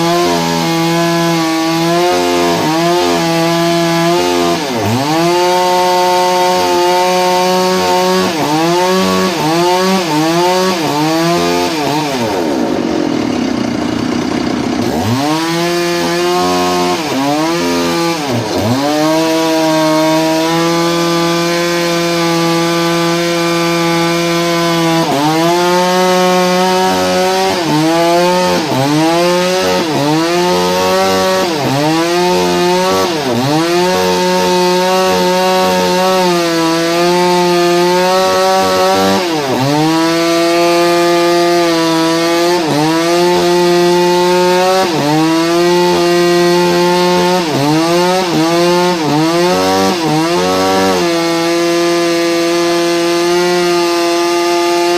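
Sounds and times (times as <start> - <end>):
engine saw cutting wood: 0.0 - 54.9.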